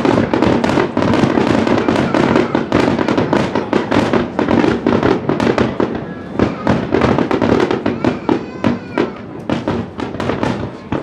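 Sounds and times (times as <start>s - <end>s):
fireworks launches and bursts: 0.0s - 11.0s.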